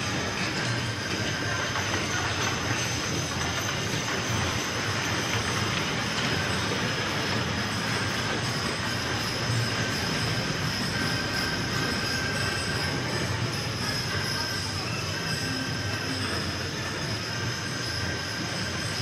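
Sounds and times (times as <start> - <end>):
wagon wheels rolling: 0.0 - 19.0.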